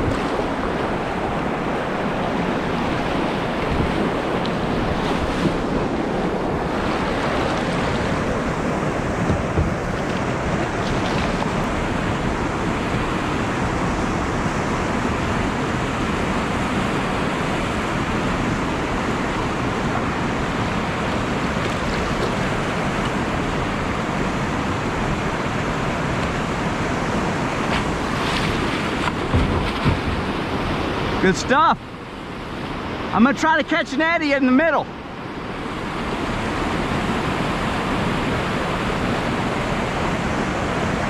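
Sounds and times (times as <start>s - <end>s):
whitewater rushing: 0.0s - 41.0s.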